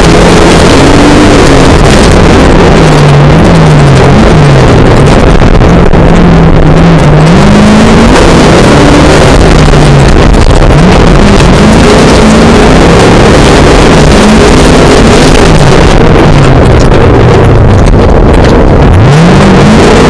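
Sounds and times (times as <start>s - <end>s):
rally car engine revving: 0.0s - 20.0s
road and tyre noise: 0.0s - 20.0s.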